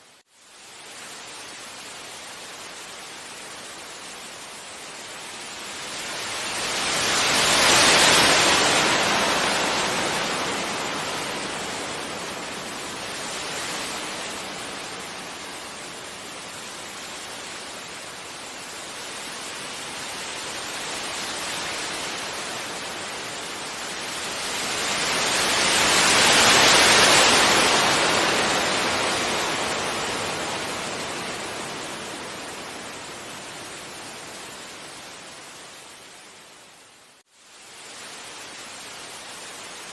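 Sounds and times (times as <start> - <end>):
sea waves breaking on beach: 1.7 - 35.6.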